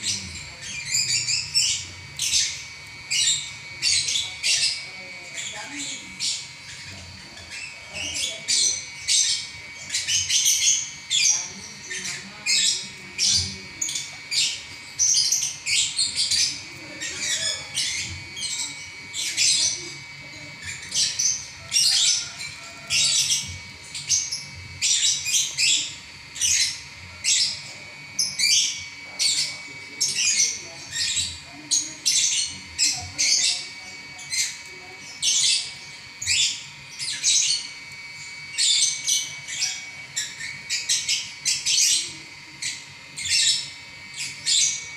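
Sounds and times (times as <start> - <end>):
lovebird chattering song: 0.0 - 44.9.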